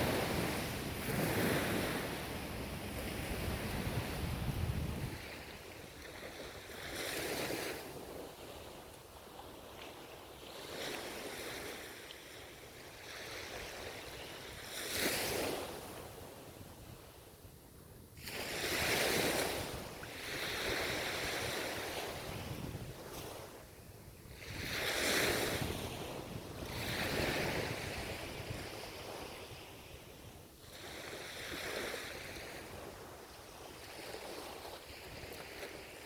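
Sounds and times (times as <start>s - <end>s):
ocean waves breaking on shore: 0.0s - 17.4s, 18.2s - 36.0s
wind on microphone: 0.0s - 36.0s.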